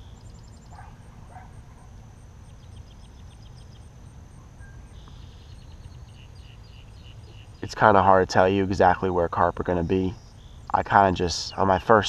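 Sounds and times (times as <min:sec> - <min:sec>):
insect-like trills and ticking: 0:00.0 - 0:12.0.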